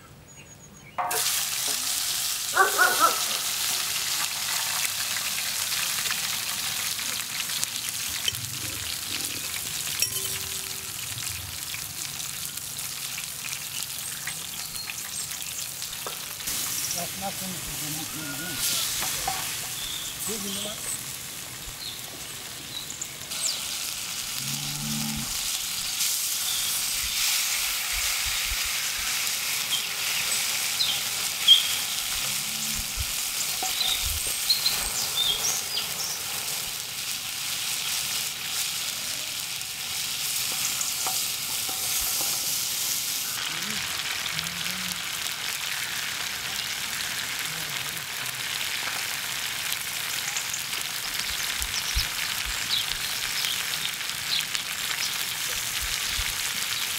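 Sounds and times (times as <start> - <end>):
chicken wings sizzling in a pan: 1.0 - 56.9.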